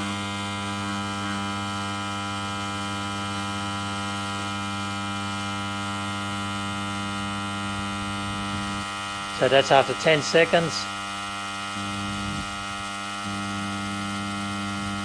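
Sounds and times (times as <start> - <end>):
transformer humming under load: 0.0 - 15.0.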